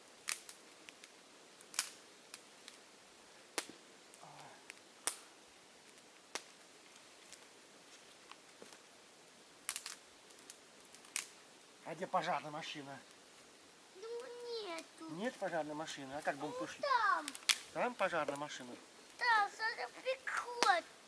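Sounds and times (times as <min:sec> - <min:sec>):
campfire crackling and popping: 0:00.0 - 0:21.0
low steady hiss: 0:00.0 - 0:21.0.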